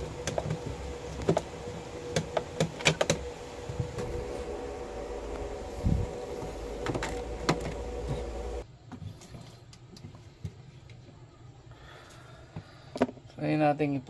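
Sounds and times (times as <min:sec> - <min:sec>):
background hum: 0:00.0 - 0:14.0.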